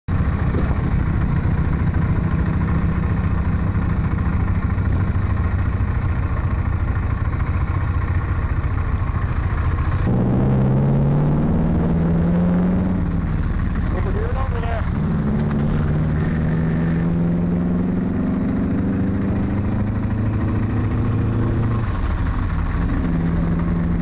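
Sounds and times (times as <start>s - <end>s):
motorcycle engine running: 0.1s - 24.0s.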